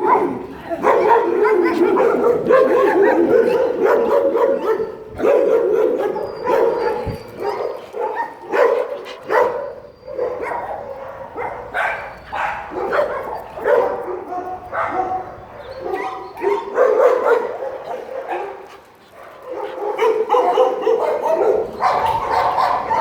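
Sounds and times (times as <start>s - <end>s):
dogs barking and yipping: 0.0s - 23.0s.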